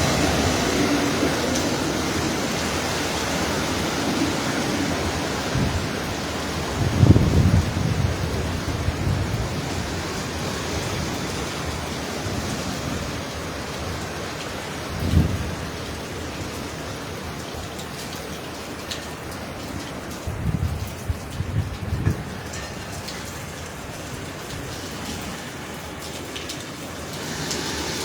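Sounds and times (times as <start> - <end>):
wind gusts buffeting microphone: 0.0 - 16.7, 20.1 - 26.3
heavy rain: 0.0 - 28.0
hurricane wind: 0.0 - 28.0.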